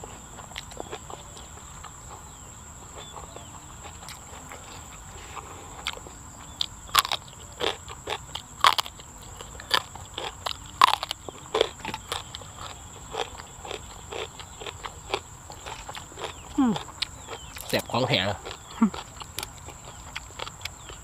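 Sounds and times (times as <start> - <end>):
wet chewing: 0.4 - 21.0.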